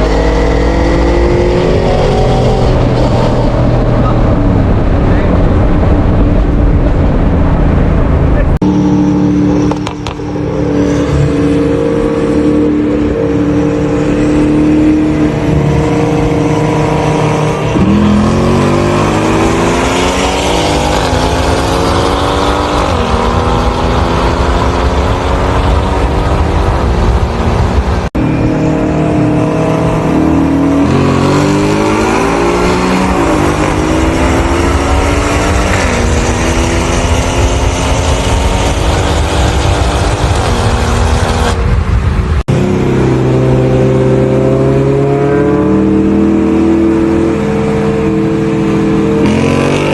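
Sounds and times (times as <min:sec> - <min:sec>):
car engines revving through gears: 0:00.0 - 0:49.9.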